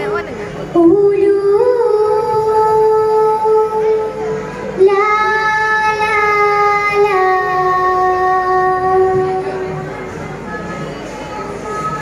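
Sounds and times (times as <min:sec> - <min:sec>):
children singing in unison: 0:00.8 - 0:12.0.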